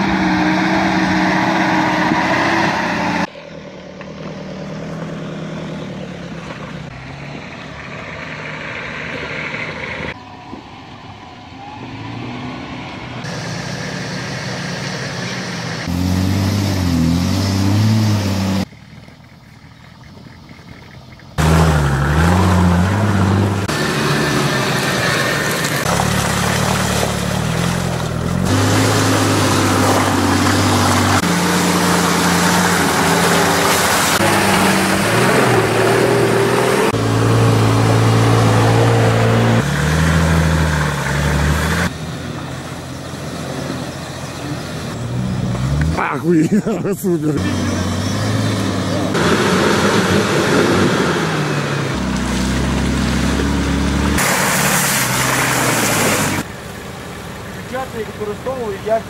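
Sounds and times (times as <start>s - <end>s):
off-road engines under load: 0.0s - 59.0s.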